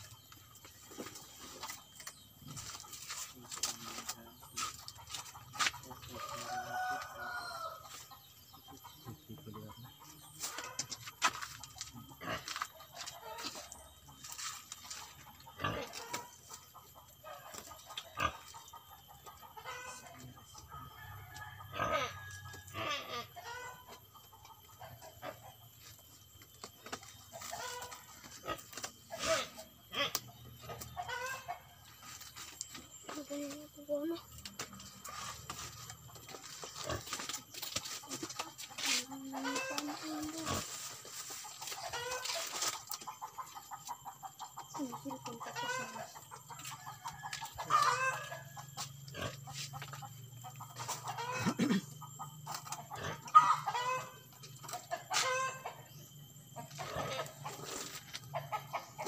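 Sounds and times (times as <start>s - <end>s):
farm animal calls: 0.0s - 25.9s, 26.6s - 56.0s, 56.6s - 59.0s
chickens clucking: 0.0s - 59.0s.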